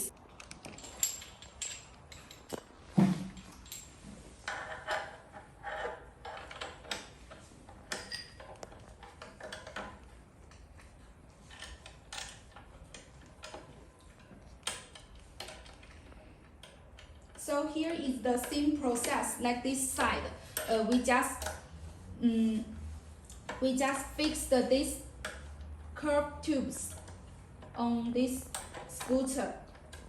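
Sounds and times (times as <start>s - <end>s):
metal tubes clicking and knocking: 0.0s - 21.8s, 23.2s - 26.0s, 26.7s - 30.0s.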